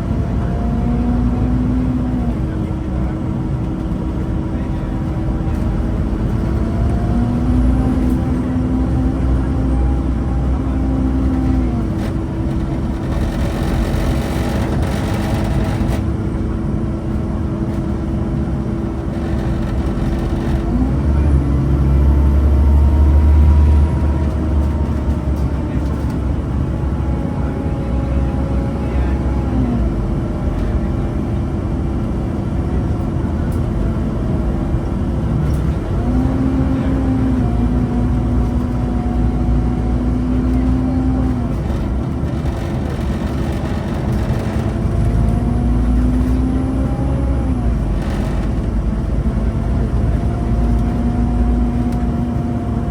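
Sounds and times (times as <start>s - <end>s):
bus engine whine: 0.0s - 52.9s.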